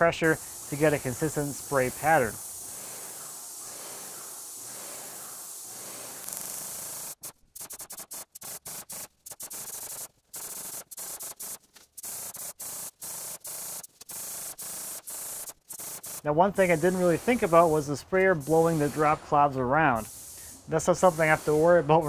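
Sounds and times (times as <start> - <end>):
paint sprayer hissing: 0.0 - 22.0.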